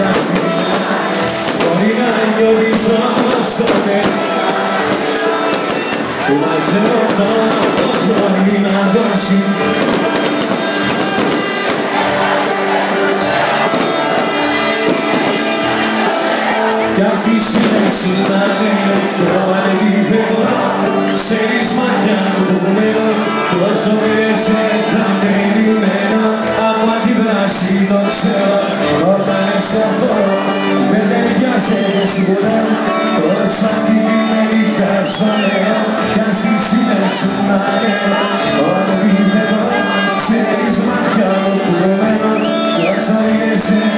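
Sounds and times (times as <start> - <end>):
crowd noise: 0.0 - 43.9
live band music: 0.0 - 43.9
person singing into microphone: 0.0 - 43.9.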